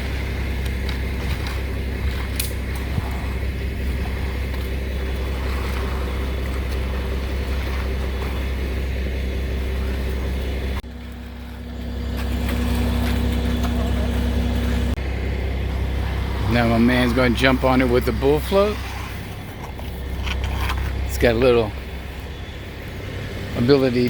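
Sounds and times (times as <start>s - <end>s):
engine humming low: 0.0s - 24.0s
higher engine hum: 0.0s - 24.0s.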